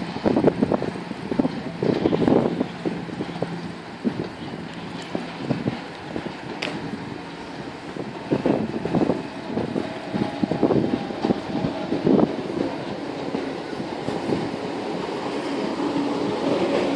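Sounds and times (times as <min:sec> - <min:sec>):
train wheels clattering: 0:00.0 - 0:16.9.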